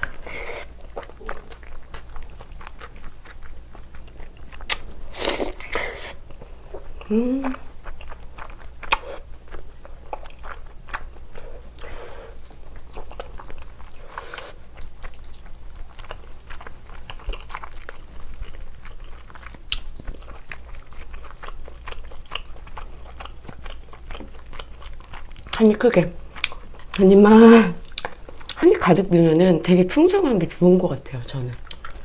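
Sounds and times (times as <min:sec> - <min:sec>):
wet chewing and mouth smacks: 0:00.0 - 0:27.1, 0:27.8 - 0:28.6, 0:31.6 - 0:32.0.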